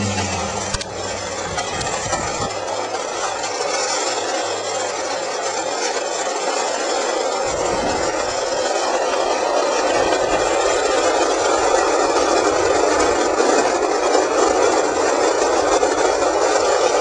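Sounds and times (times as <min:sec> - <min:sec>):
low hum: 0:00.0 - 0:16.8
wheels rolling over gritty asphalt: 0:00.0 - 0:17.0.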